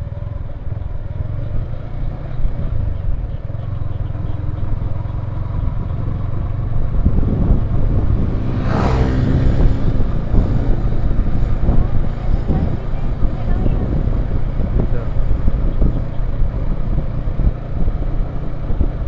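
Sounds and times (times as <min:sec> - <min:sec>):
motorcycle engine rumble: 0:00.0 - 0:19.0
wind rushing over microphone: 0:00.0 - 0:19.0.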